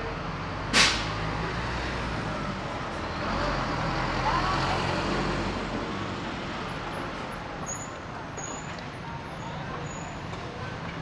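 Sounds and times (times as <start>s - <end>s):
steady traffic wash: 0.0s - 11.0s.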